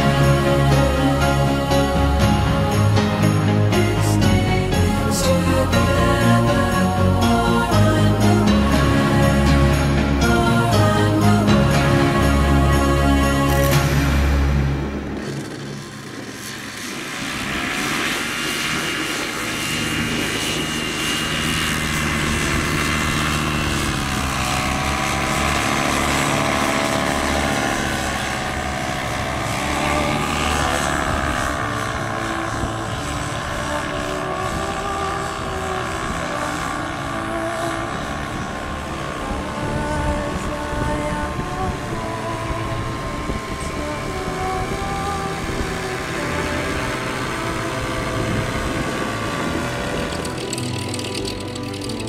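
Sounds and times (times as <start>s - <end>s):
paraglider engine and propeller: 0.0s - 52.0s.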